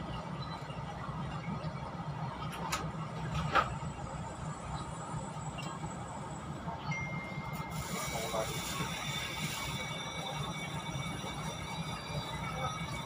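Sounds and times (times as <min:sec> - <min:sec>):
train carriage low hum: 0:00.0 - 0:13.0.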